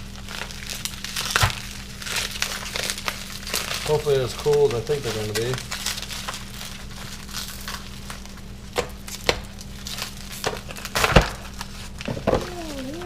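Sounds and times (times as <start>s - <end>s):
packing paper crinkling: 0.0s - 13.0s
sharp paper crackles: 0.0s - 13.0s.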